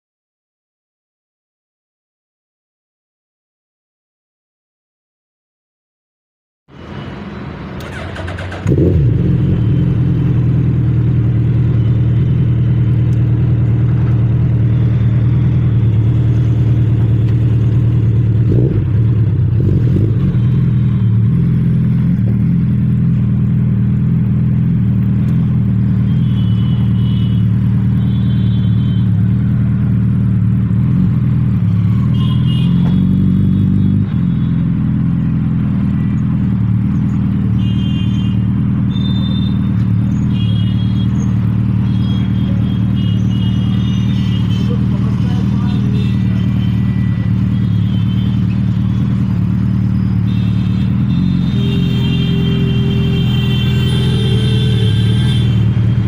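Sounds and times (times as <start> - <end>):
motorcycle engine idling: 7.8 - 56.0.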